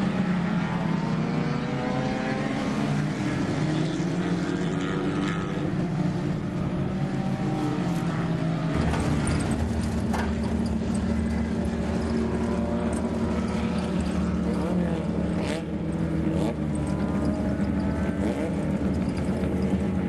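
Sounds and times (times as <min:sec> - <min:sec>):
small race car engines: 0:00.0 - 0:20.0
engine drone inside vehicle: 0:03.8 - 0:20.0.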